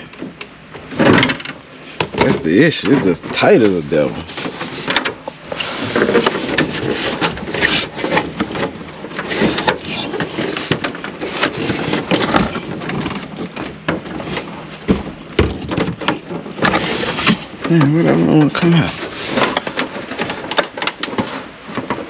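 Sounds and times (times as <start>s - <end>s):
plastic trim clicking and scraping: 0.1s - 22.0s.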